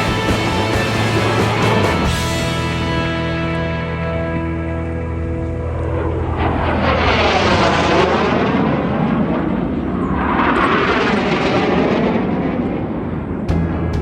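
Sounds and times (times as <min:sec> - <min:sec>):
airplanes roaring past low: 0:00.0 - 0:14.0.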